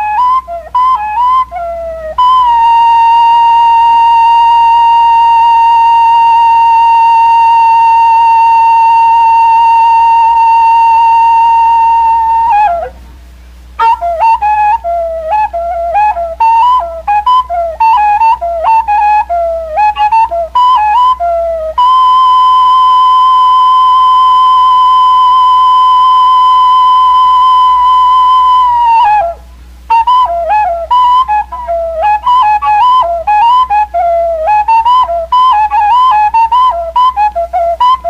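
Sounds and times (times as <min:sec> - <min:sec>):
whistle-like wind instrument melody: 0:00.0 - 0:38.0.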